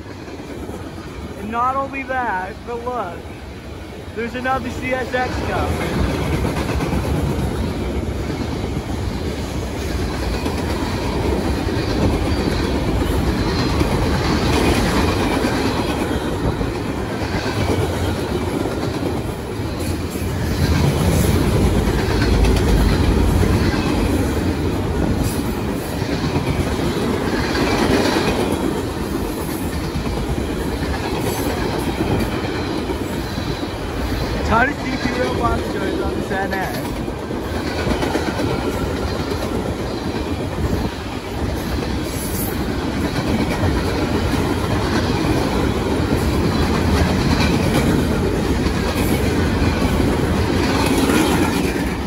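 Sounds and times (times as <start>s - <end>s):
wheels clacking over rail joints: 4.5s - 52.0s.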